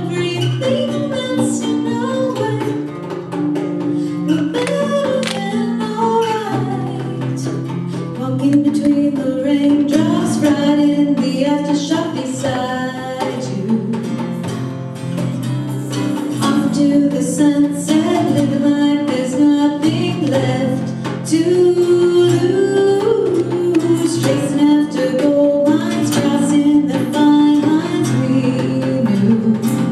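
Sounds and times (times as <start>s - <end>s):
woman singing: 0.0s - 3.2s, 3.8s - 14.5s, 15.1s - 29.9s
hand drumming on djembe: 0.0s - 29.9s
strummed acoustic guitar: 0.0s - 29.9s.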